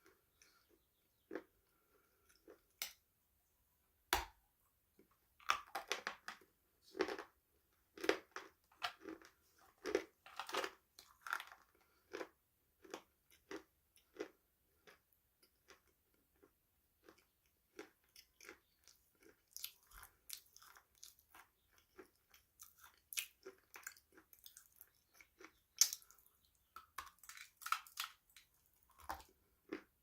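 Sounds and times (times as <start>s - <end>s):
crunchy food being chewed: 0.0s - 3.0s, 5.0s - 30.0s.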